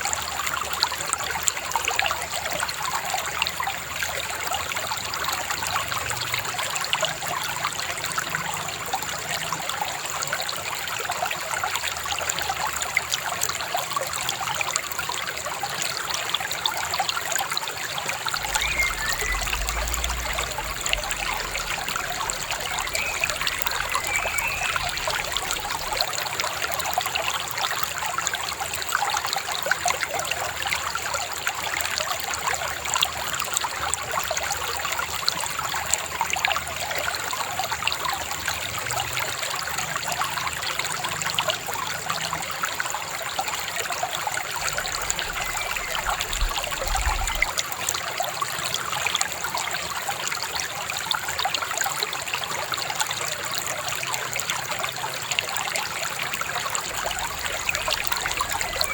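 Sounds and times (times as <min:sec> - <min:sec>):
river babbling over stones: 0:00.0 - 0:32.9, 0:33.5 - 0:58.9.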